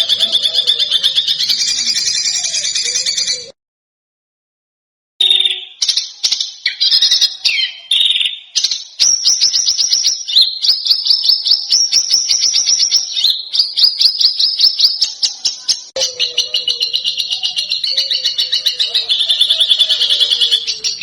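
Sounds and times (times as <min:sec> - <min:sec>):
songbird singing: 0:00.0 - 0:03.6, 0:05.2 - 0:21.0.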